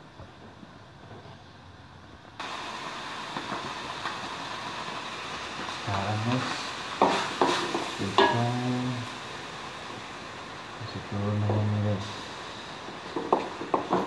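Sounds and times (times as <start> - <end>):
chicken sizzling in a wok: 2.4 - 14.0.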